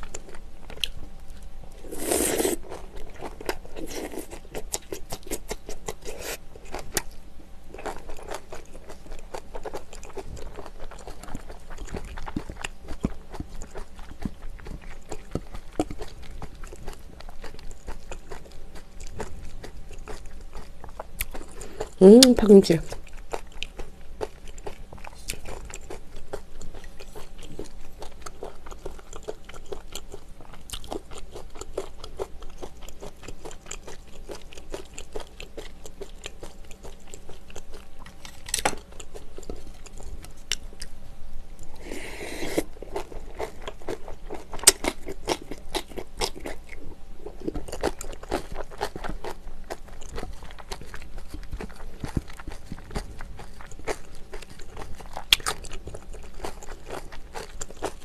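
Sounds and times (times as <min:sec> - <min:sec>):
person chewing food: 0:00.0 - 0:22.3, 0:22.9 - 0:41.0, 0:41.6 - 0:58.0.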